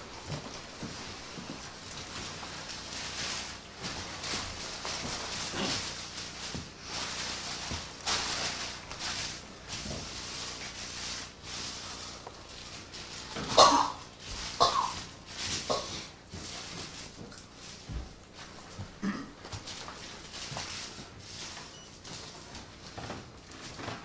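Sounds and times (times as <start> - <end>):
plastic and paper rustling: 0.0 - 24.0.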